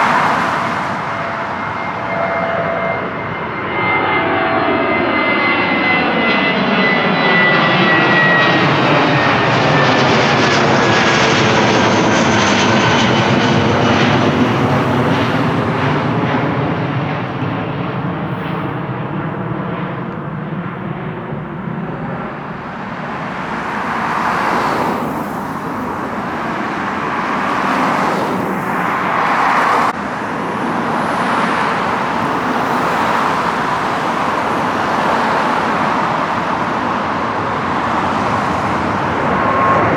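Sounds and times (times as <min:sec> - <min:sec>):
jet airliner engines roaring: 0:00.0 - 0:39.9
passing road traffic: 0:00.0 - 0:39.9.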